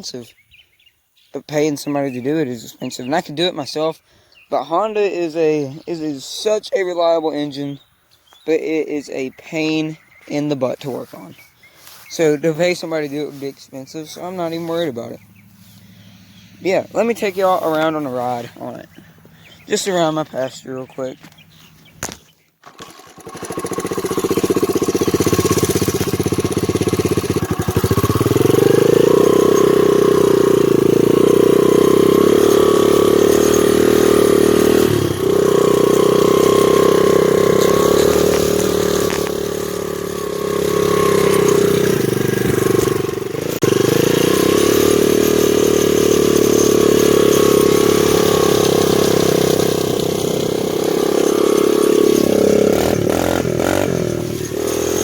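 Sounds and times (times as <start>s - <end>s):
dirt bike engine running: 10.4s - 20.6s, 21.2s - 55.0s.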